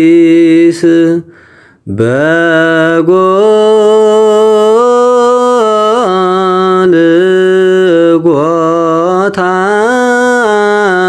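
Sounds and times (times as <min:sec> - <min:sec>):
person chanting a hymn: 0:01.9 - 0:11.0.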